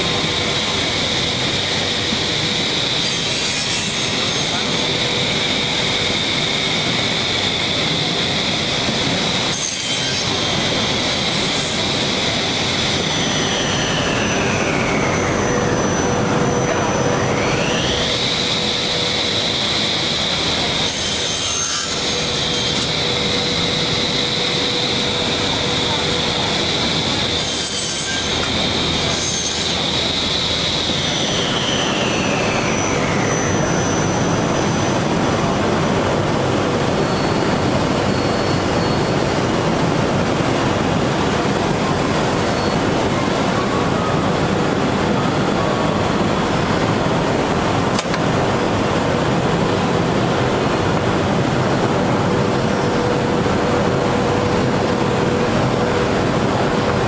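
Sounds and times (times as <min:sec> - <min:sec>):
saw blades whining: 0:00.0 - 0:57.0
steady mechanical rush: 0:00.0 - 0:57.0.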